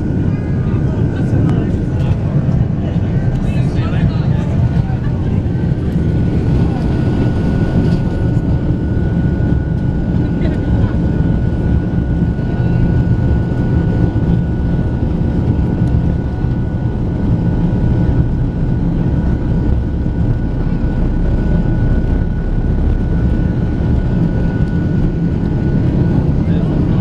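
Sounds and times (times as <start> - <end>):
jet engines and wheels rumbling: 0.0 - 27.0
thin steady whine: 0.0 - 27.0.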